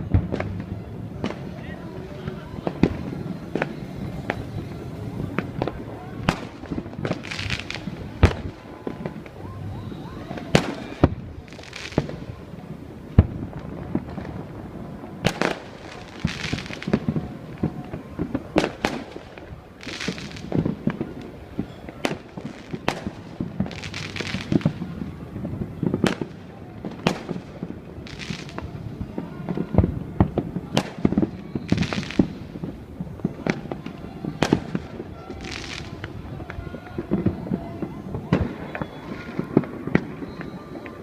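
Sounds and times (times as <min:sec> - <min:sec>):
fireworks bangs: 0:00.0 - 0:41.0
fireworks crackling hiss: 0:00.0 - 0:41.0
murmur of crowd voices: 0:00.0 - 0:41.0.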